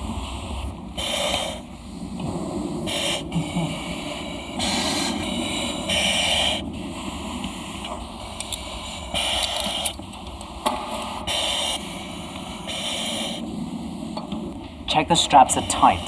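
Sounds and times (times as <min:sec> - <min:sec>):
hissing breaths through mask: 0:00.0 - 0:02.2, 0:02.8 - 0:10.0, 0:10.8 - 0:14.2.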